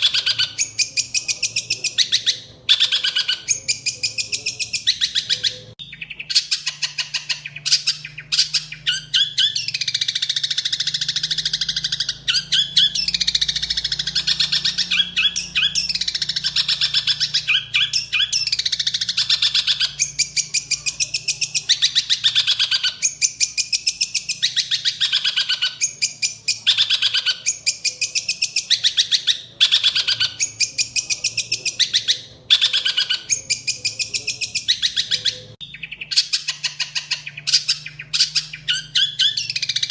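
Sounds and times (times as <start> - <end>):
shrike singing harsh chattering song: 0.0 - 39.9
sparrow-like chirps: 0.0 - 39.9.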